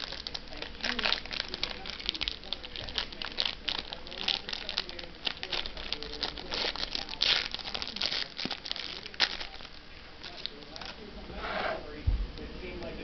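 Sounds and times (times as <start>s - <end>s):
wrapper crinkling and tearing: 0.0s - 10.9s.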